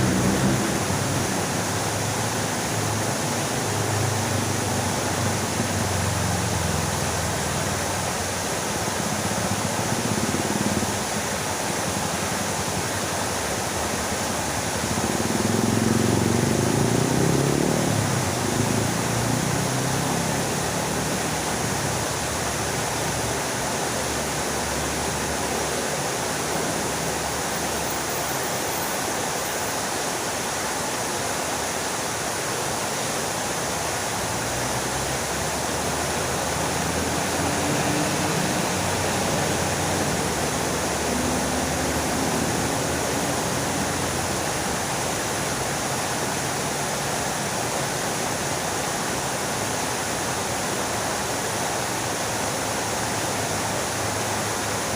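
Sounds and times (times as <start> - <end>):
fountain water splashing: 0.0 - 54.9.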